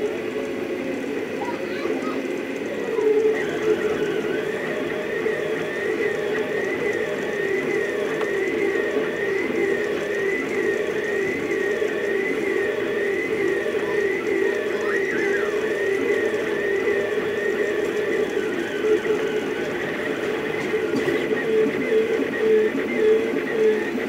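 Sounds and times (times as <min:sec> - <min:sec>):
stepper motors whining: 0:00.0 - 0:24.0.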